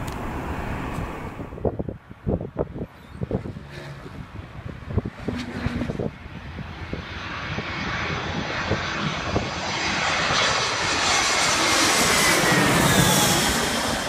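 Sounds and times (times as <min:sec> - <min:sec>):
jet engines whining overhead: 0:00.0 - 0:14.0
wind buffeting microphone: 0:00.0 - 0:14.0.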